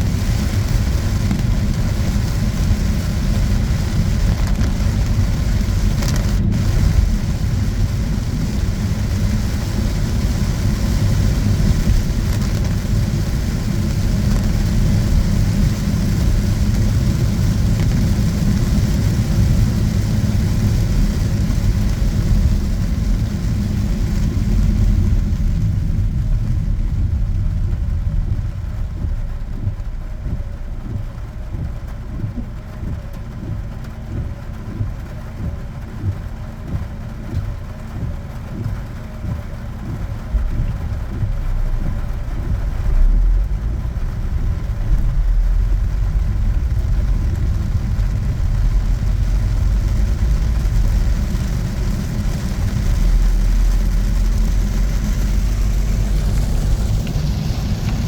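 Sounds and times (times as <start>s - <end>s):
rain and wet road hiss: 0.0s - 58.0s
vehicle rumble: 0.0s - 58.0s.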